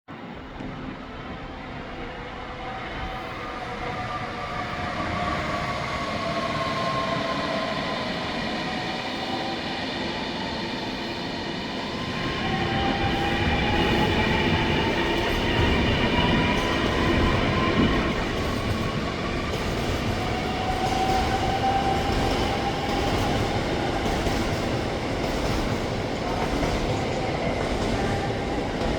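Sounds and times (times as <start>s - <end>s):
train wheels rumbling: 1.9s - 28.9s.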